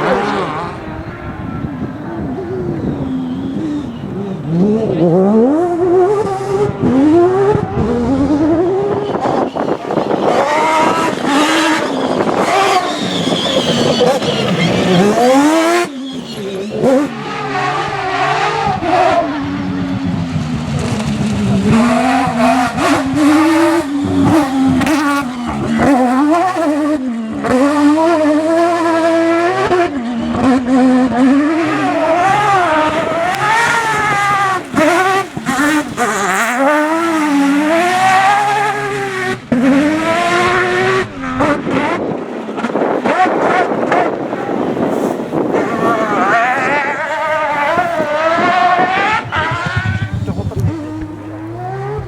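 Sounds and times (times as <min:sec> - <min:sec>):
rotary engine revving hard: 0:00.0 - 0:52.0.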